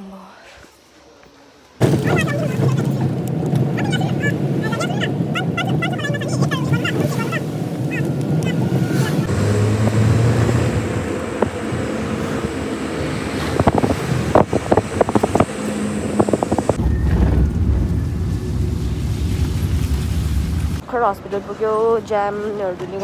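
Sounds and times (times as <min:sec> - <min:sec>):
road and engine noise: 0:01.2 - 0:23.0
wind rumble on microphone: 0:01.8 - 0:20.8.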